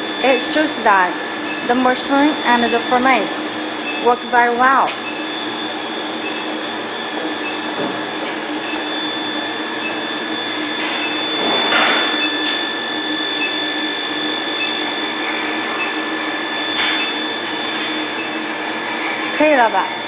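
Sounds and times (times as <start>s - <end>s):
high whining tones: 0.0s - 20.0s
induction furnace humming: 0.0s - 20.0s.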